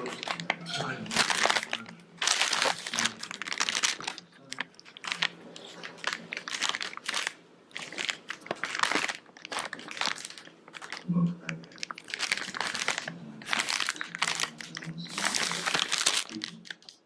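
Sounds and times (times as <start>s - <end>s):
biting and chewing food: 0.0s - 17.0s.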